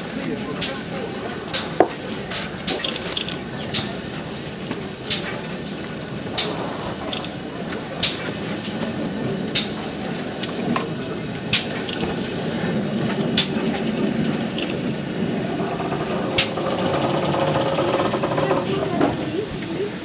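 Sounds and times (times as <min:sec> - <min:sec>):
steam hissing: 0:00.0 - 0:20.0
steam locomotive rumble and hiss: 0:00.0 - 0:20.0.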